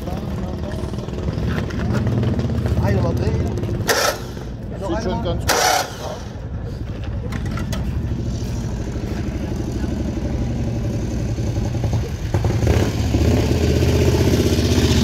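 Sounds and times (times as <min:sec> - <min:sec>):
motorcycle engine chugging: 0:00.0 - 0:04.6, 0:07.1 - 0:15.0.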